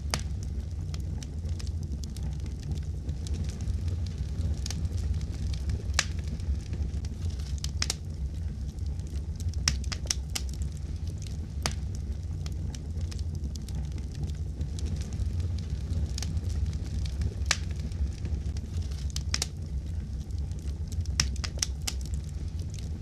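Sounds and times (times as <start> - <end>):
fireplace fire crackling: 0.0 - 23.0.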